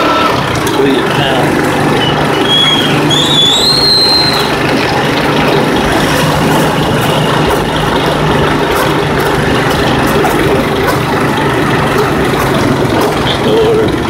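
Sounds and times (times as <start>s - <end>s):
road noise: 0.0s - 14.0s
vehicle engine drone: 0.0s - 14.0s.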